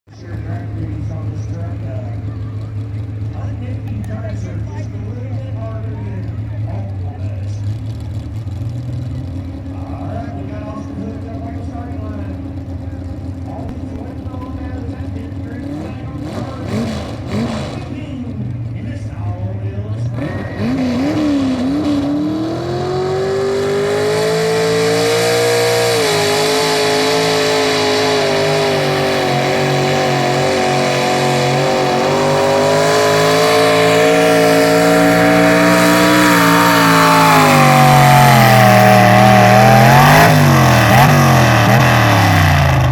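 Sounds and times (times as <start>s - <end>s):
truck engine revving hard: 0.1s - 42.9s.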